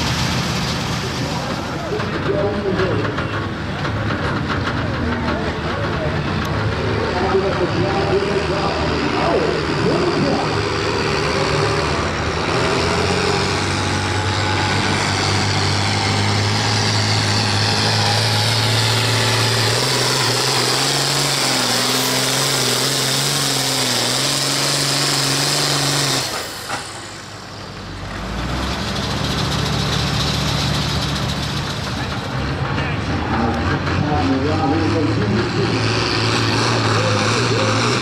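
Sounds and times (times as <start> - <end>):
tractor diesel engine under load: 0.0 - 38.0.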